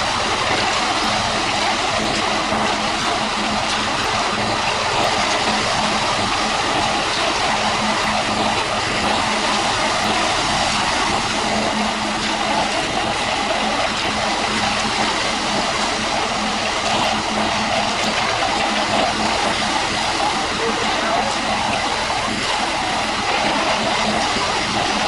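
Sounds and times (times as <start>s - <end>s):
construction machinery engine hum: 0.0s - 25.0s.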